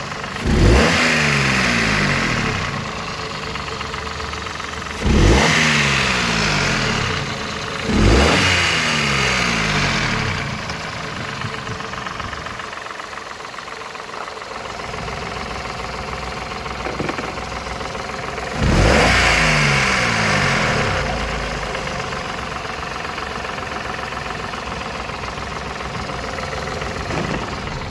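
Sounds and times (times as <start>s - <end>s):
engine revving: 0.0s - 12.7s, 14.8s - 24.0s, 24.6s - 27.9s
car engine idling: 0.0s - 27.9s
engine ticking: 0.0s - 27.9s.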